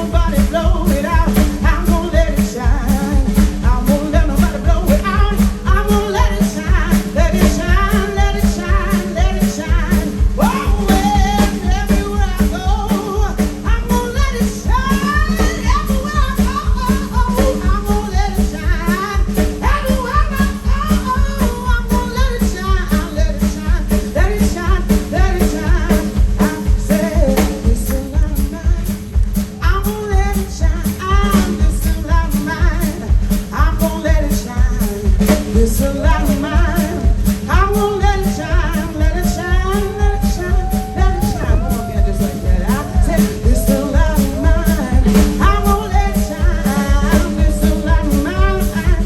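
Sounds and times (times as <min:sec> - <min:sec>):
drums steady beat: 0:00.0 - 0:49.0
live blues band playing: 0:00.0 - 0:49.0
woman singing: 0:00.0 - 0:49.0.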